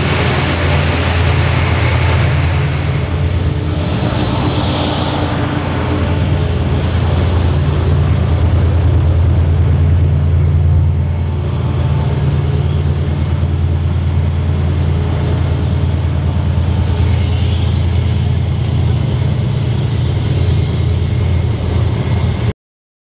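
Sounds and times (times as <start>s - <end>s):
train engine hum: 0.0s - 22.5s
wheel and rail noise: 0.0s - 22.5s.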